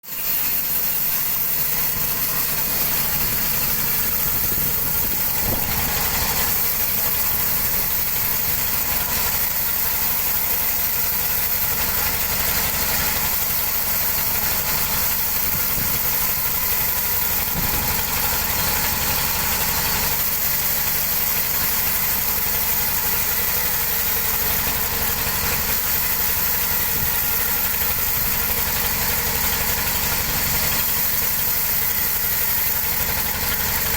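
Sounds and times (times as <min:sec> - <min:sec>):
sawmill machine drone: 0:00.0 - 0:33.9.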